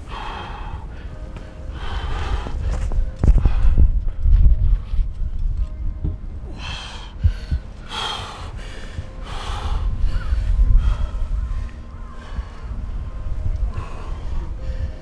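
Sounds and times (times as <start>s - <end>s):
person breathing hard: 0.0s - 4.9s, 6.4s - 15.0s
low rumble: 0.0s - 15.0s.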